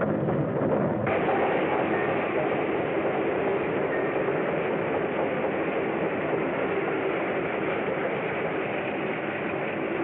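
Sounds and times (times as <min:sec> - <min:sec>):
train wheels rolling past: 0:00.0 - 0:10.0.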